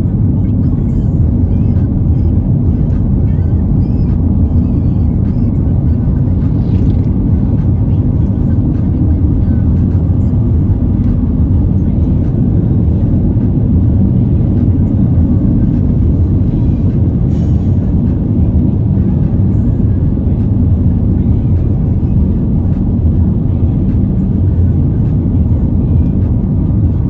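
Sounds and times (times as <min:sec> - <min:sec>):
car cabin road and engine noise: 0:00.0 - 0:27.0.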